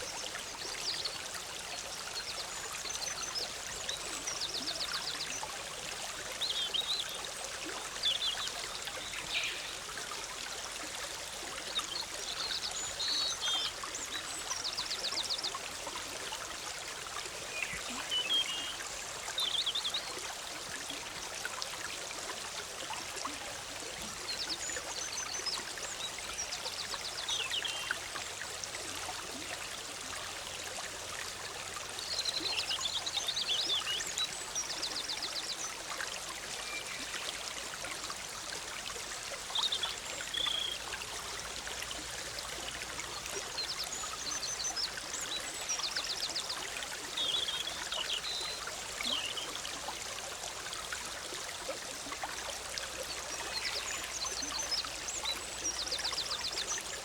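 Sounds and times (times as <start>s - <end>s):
forest stream babbling: 0.0s - 57.0s.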